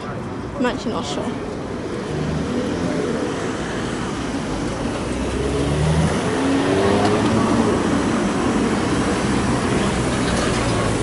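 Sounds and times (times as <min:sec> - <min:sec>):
traffic noise: 0:00.0 - 0:11.0
vehicle engine accelerating: 0:01.9 - 0:11.0.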